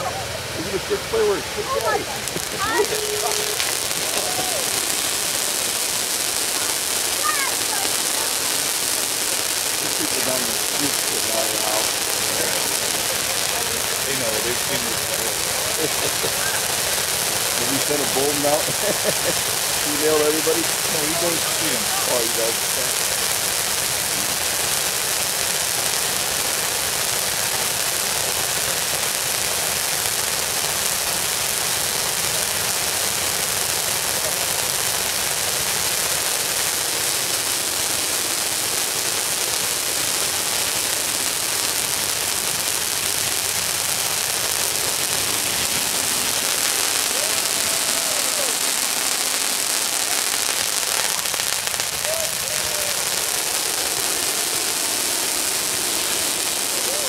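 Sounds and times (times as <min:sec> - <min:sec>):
fountain fireworks hissing: 0:00.0 - 0:57.0.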